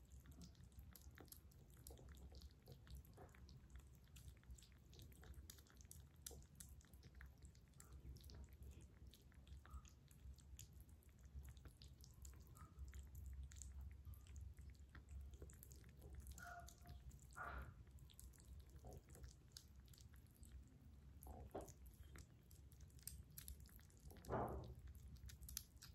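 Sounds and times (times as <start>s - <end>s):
kittens smacking and licking: 0.0s - 25.9s.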